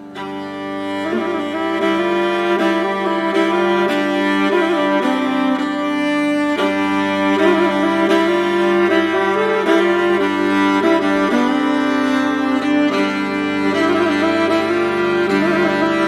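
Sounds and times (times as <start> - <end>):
slow instrumental music: 0.0 - 16.0.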